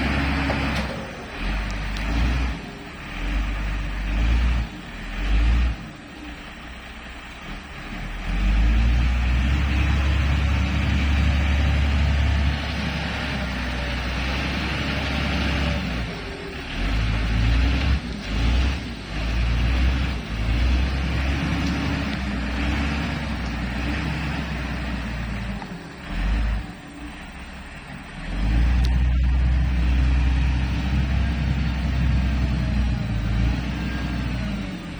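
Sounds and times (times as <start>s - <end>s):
diesel engine running under load: 0.0s - 34.9s.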